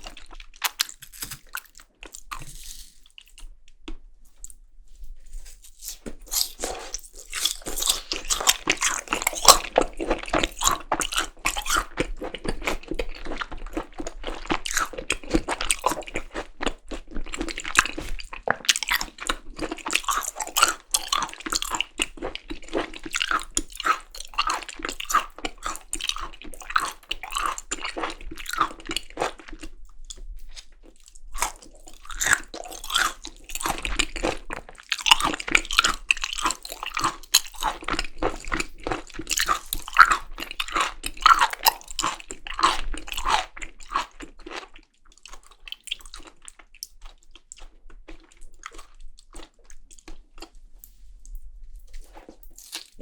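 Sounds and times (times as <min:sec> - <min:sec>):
wet crunchy chewing: 0:00.0 - 0:03.6, 0:05.4 - 0:51.1, 0:51.9 - 0:53.0.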